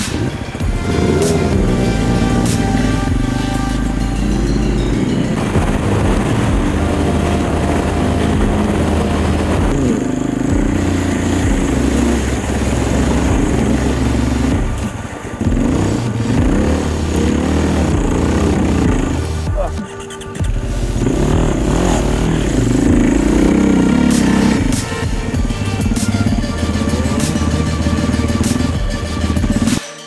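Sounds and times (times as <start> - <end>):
motorcycle engine revving: 0.0 - 29.8.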